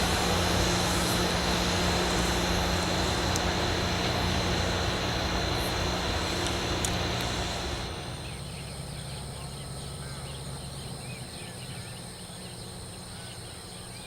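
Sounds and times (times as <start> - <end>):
faint low hum: 0.0 - 14.0
insect trill: 0.0 - 14.0
rail grinding machinery rumble: 0.0 - 14.0.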